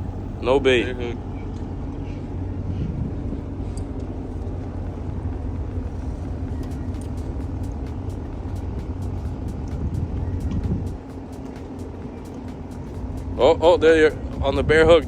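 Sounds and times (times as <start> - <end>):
low motor rumble: 0.0 - 15.0.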